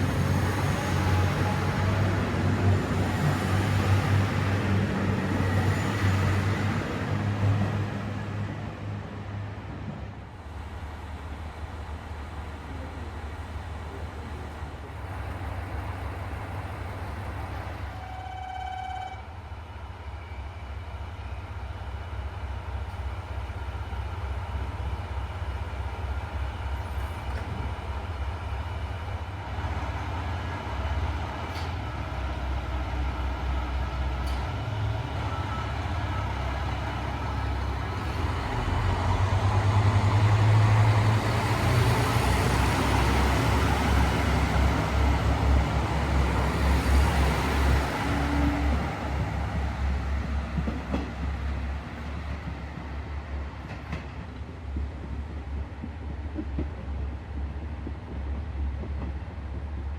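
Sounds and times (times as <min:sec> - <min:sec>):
diesel railcar engine rumble: 0:00.0 - 0:59.9.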